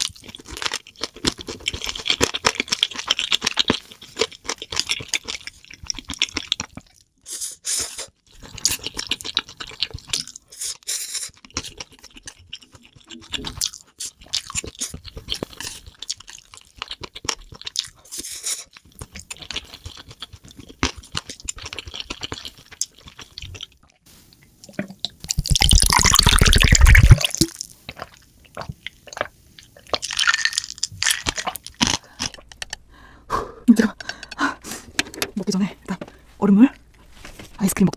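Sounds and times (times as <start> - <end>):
person chewing and slurping noodles: 0.0 - 33.2.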